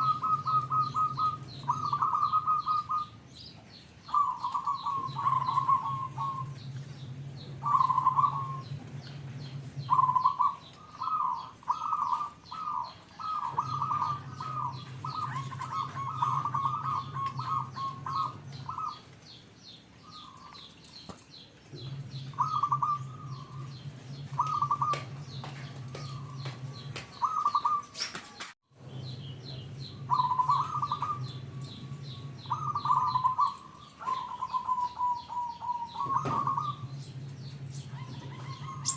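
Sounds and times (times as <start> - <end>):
dove cooing in trilled phrases: 0.0 - 3.2, 4.0 - 8.8, 9.4 - 19.1, 21.8 - 28.0, 29.6 - 37.0, 37.6 - 38.9
high chirps of small birds: 0.0 - 38.9.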